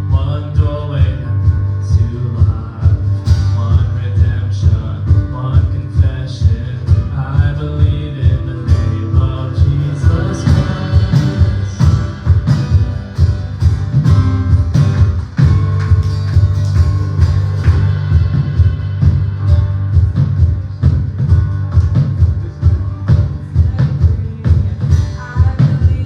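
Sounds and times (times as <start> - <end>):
person singing: 0.0 - 13.1, 17.6 - 26.0
heavy bass line: 0.0 - 26.0
worship band music: 0.0 - 26.0.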